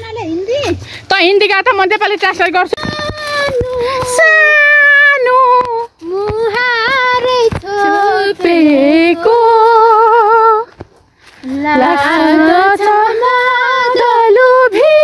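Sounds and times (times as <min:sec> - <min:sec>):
woman singing unaccompanied: 0:02.1 - 0:10.7, 0:11.4 - 0:15.0.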